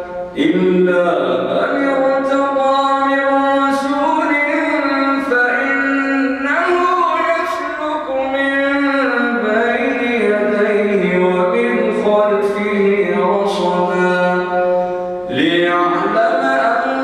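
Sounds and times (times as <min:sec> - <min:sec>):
man chanting melodic recitation: 0:00.0 - 0:17.0.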